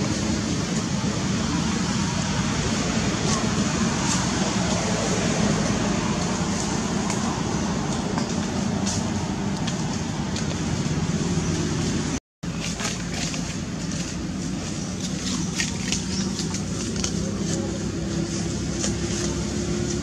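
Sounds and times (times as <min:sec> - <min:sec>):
outdoor rumble and hiss: 0:00.0 - 0:20.0.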